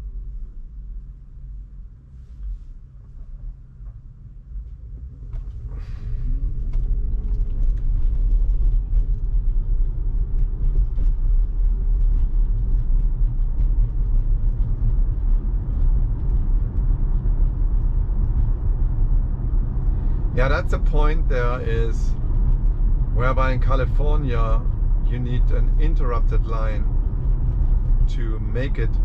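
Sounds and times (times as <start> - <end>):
road and tyre rumble in car: 0.0 - 29.0.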